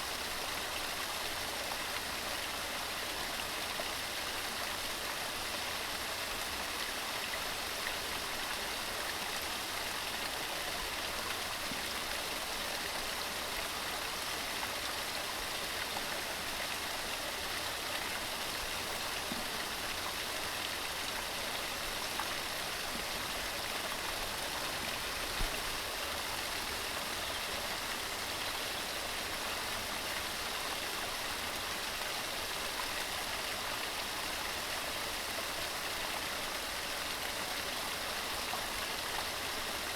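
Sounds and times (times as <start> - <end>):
waterfall over rocks: 0.0 - 39.9.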